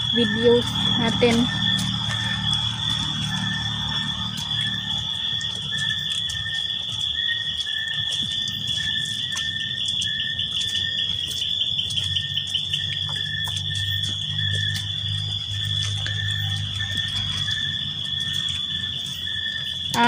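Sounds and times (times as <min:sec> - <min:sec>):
crickets trilling: 0:00.0 - 0:20.0
low insect chirp: 0:00.0 - 0:20.0.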